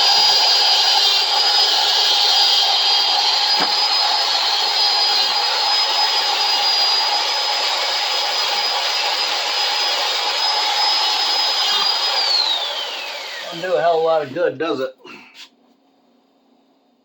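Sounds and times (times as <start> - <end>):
electric drill spinning wire wheel: 0.0 - 14.6.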